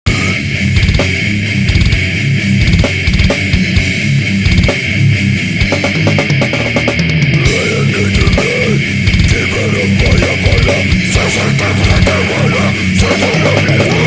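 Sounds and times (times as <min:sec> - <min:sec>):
loud music with bass thumps: 0:00.1 - 0:14.0.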